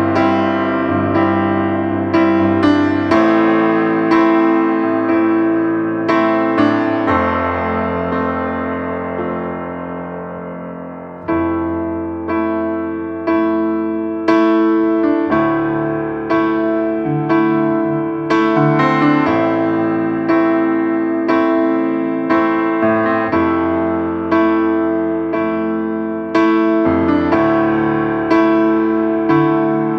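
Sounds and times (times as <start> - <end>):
piano chords: 0.0 - 29.9.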